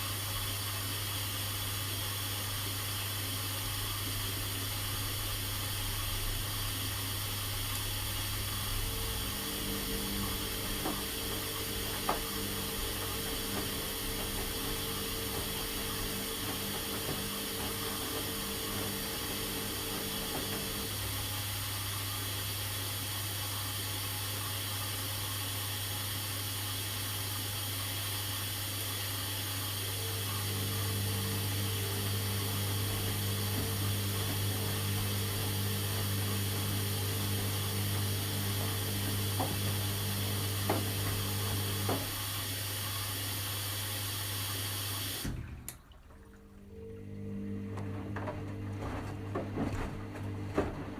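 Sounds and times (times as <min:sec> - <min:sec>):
washing machine hiss and hum: 0:00.0 - 0:50.9
washing machine motor whine: 0:00.0 - 0:50.9.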